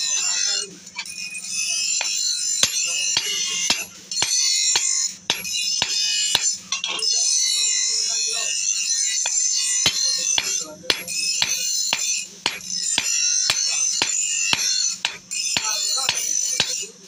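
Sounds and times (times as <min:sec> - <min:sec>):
hammer striking steel on anvil: 0:00.0 - 0:16.9.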